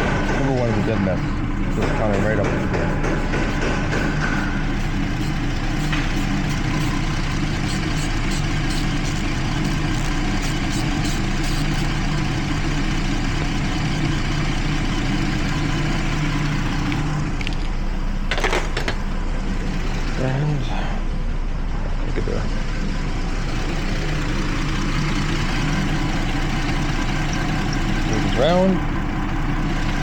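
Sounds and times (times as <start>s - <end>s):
car engine idling and misfiring: 0.0s - 30.0s.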